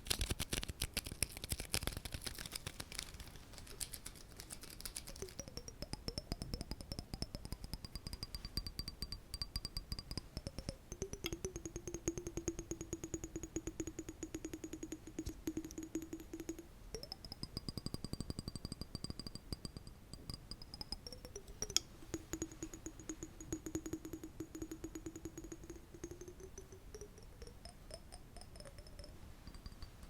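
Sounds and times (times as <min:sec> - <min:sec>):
fast asmr tapping: 0:00.0 - 0:30.0.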